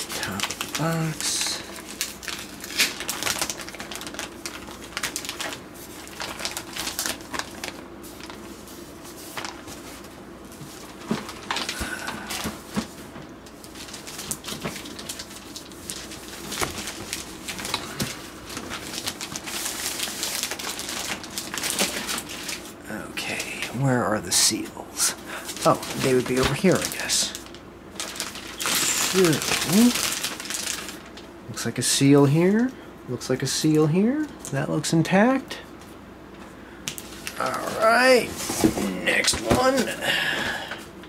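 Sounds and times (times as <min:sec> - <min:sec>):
plastic wrapping crinkling: 0:00.0 - 0:23.8, 0:25.4 - 0:31.3, 0:36.9 - 0:40.0
low steady hum: 0:00.0 - 0:41.0.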